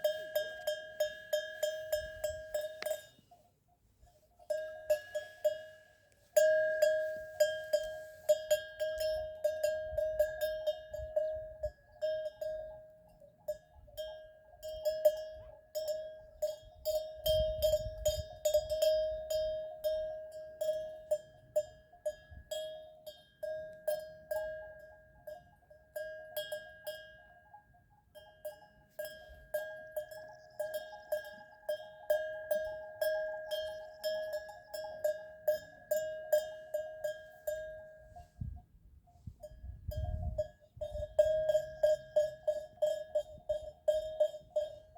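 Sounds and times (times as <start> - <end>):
goat bell clanking: 0.0 - 44.9.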